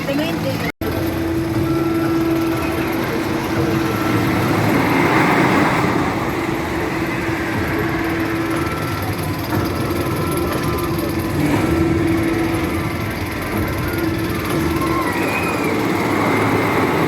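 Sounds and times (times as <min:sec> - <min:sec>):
roller coaster clattering on track: 0:00.0 - 0:17.0.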